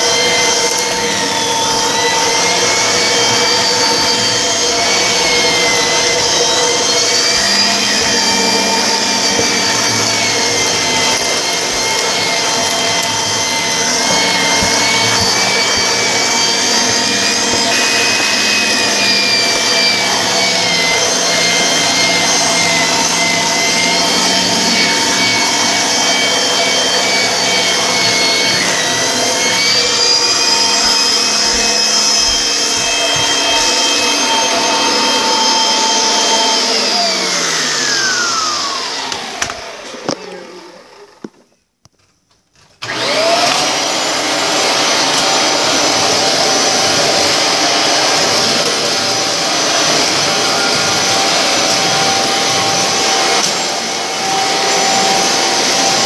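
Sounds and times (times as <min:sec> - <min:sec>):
vacuum cleaner motor whining: 0:00.0 - 0:56.0.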